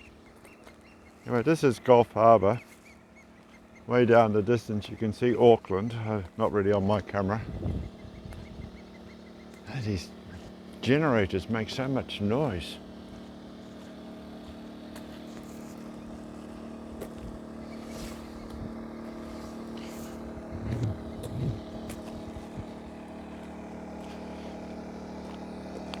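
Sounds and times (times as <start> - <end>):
portable generator droning: 0.0 - 26.0.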